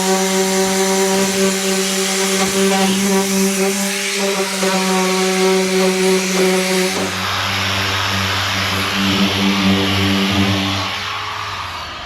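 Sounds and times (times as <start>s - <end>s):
power tool humming: 0.0s - 11.9s.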